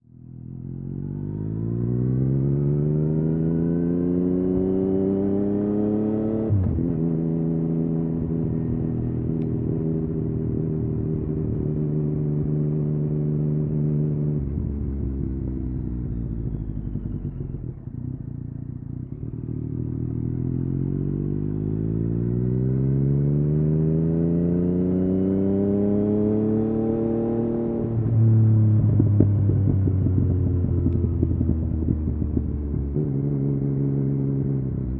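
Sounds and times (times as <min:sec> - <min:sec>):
motorcycle engine revving: 0:00.3 - 0:34.9.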